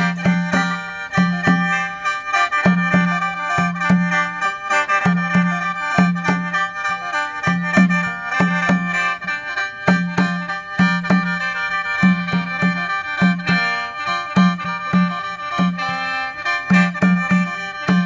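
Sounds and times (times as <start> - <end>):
low note beat: 0.0 - 16.0.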